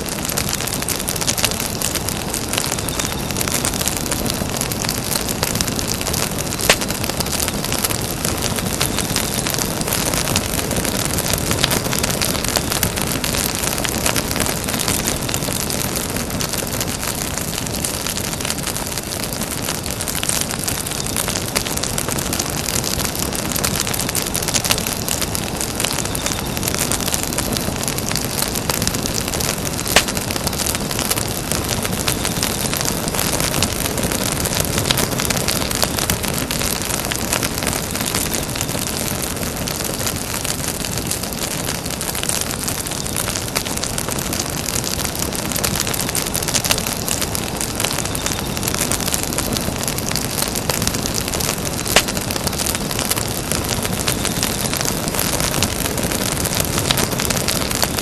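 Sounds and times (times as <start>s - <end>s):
campfire crackling and hissing: 0.0s - 58.0s
sharp fire pops: 0.0s - 58.0s.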